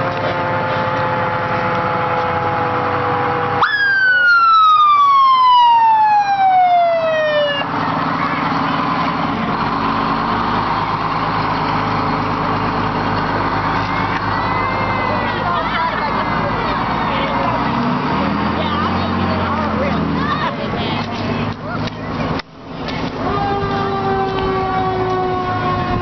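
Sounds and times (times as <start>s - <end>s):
fire engine siren wailing: 0.0s - 26.0s
street noise: 0.0s - 26.0s
truck rumble: 0.0s - 26.0s.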